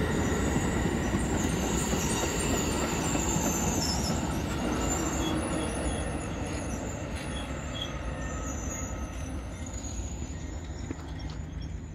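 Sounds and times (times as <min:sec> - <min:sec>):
high wheel squeals: 0:00.0 - 0:11.9
train coaches rumbling on rails: 0:00.0 - 0:11.9.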